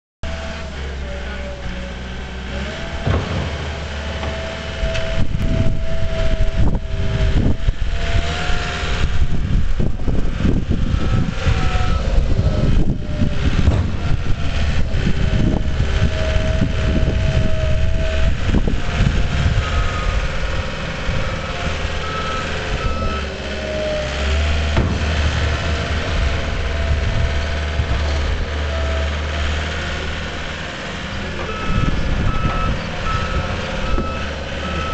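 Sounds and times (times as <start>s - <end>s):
diesel engine running under load: 0.2s - 34.9s.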